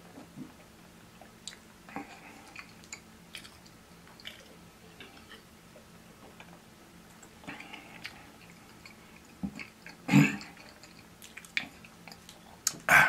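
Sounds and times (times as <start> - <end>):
man chewing with wet mouth clicks: 1.2 - 5.4, 6.3 - 12.9.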